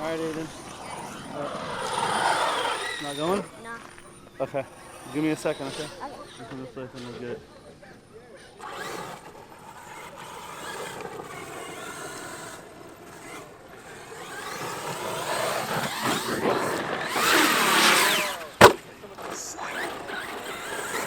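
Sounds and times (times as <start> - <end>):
electric toy truck motors whining: 0.0 - 21.0.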